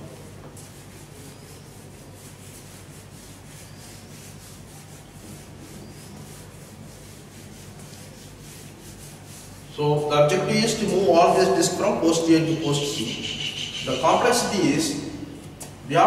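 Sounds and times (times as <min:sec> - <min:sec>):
duster wiping a whiteboard: 0:00.0 - 0:15.2.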